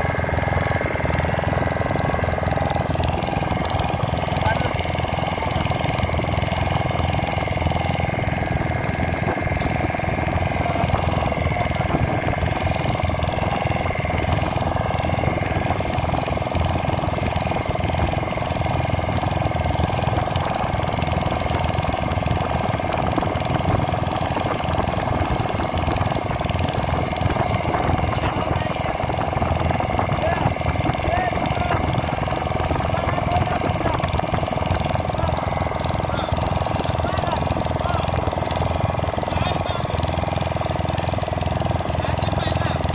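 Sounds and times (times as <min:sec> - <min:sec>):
boat engine chugging: 0:00.0 - 0:42.9.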